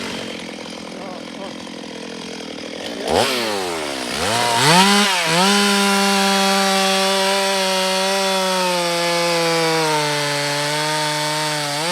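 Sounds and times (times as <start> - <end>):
chainsaw engine running: 0.0 - 11.9.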